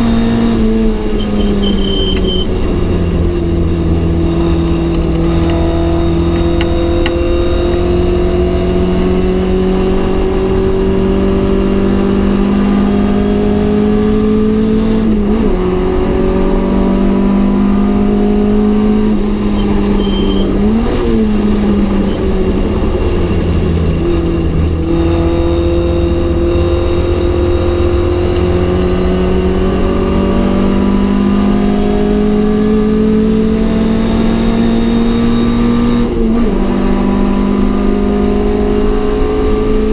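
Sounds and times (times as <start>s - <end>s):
race car engine under hard load: 0.0s - 39.9s.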